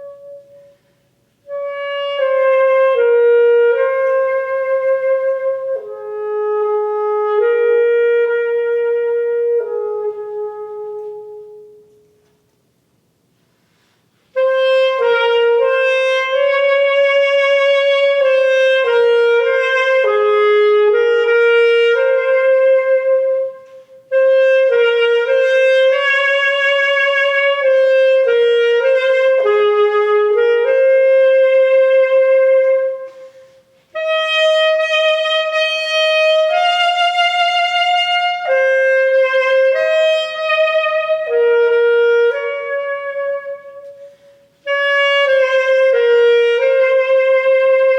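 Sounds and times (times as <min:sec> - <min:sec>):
solo wind instrument melody: 0:00.0 - 0:12.6, 0:13.7 - 0:47.9.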